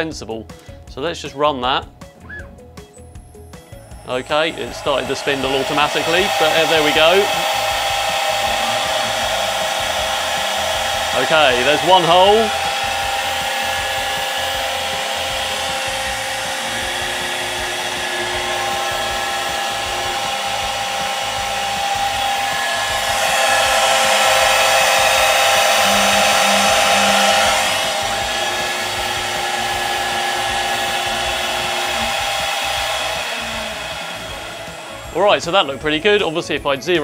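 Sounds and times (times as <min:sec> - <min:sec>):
router spindle whining: 0:01.8 - 0:37.0.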